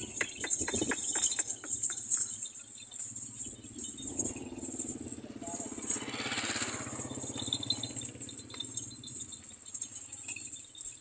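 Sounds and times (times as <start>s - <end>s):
collars rattling and jingling: 0.0s - 11.0s
goats jostling: 0.0s - 11.0s.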